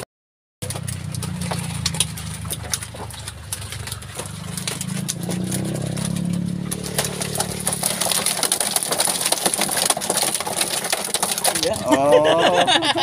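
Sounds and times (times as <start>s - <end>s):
fish flapping and slapping: 0.6s - 11.9s
engine idling: 0.6s - 12.1s.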